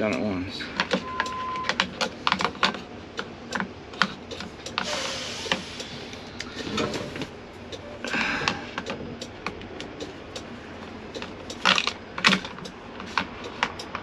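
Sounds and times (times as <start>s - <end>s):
plastic parts clicking and tapping: 0.0s - 4.9s, 6.3s - 10.5s, 11.1s - 14.0s.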